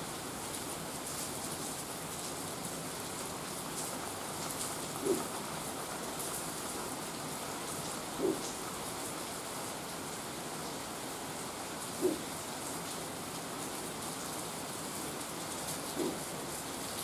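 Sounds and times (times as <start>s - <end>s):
steady rain hissing: 0.0s - 17.0s.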